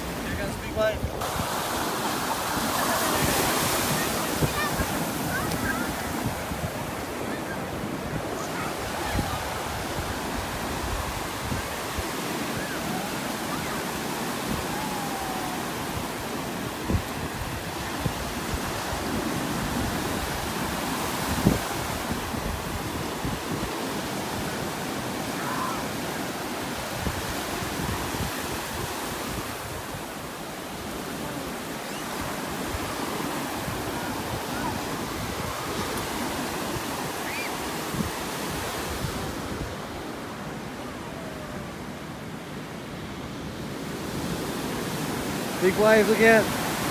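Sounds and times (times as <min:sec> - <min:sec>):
ocean surf breaking: 0:00.0 - 0:46.9.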